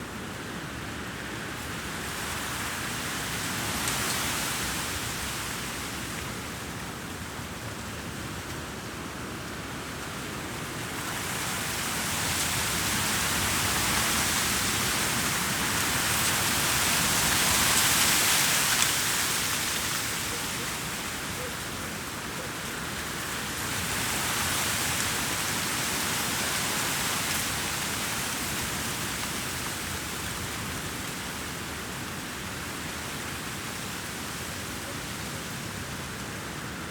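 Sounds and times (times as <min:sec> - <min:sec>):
ocean surf washing onto beach: 0:01.3 - 0:36.9.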